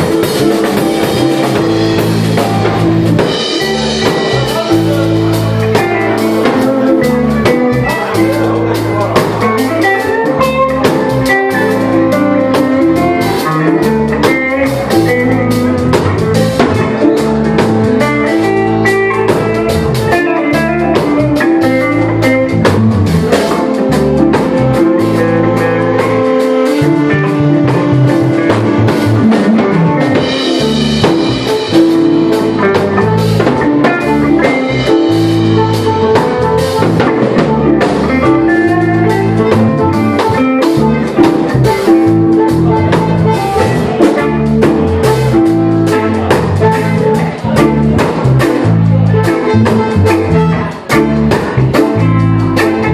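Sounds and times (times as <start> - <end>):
drum kit: 0.0 - 52.9
guitar: 0.0 - 52.9.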